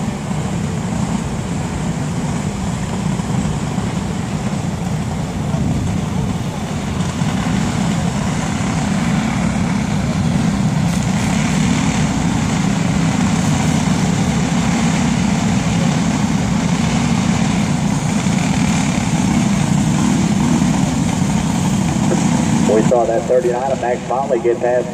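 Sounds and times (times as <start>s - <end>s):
go-kart engines droning: 0.0s - 24.9s.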